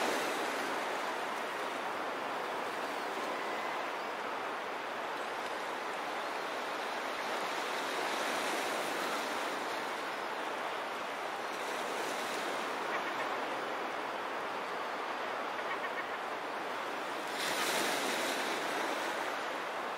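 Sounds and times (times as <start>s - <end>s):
surf rushing on a beach: 0.0s - 19.9s.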